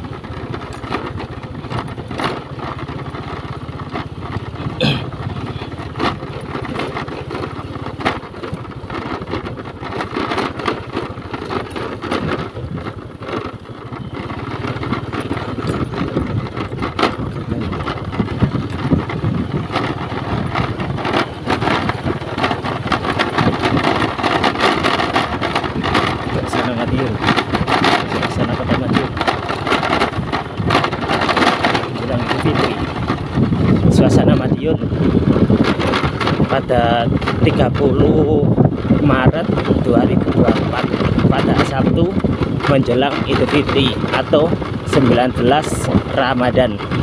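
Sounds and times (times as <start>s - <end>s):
small motorcycle engine running: 0.0s - 47.0s.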